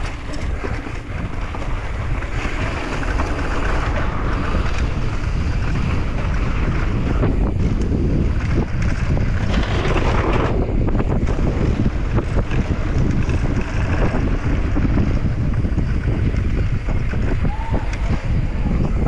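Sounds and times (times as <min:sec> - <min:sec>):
bike rattling and knocking: 0:00.0 - 0:19.0
wind rushing over microphone: 0:00.0 - 0:19.0.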